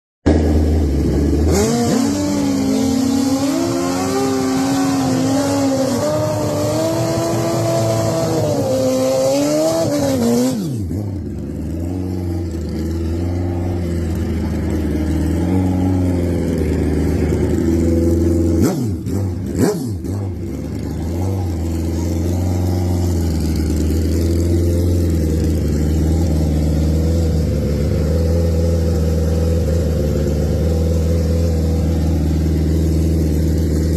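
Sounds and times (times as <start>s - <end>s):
motorcycle engine revving: 0.3s - 33.9s.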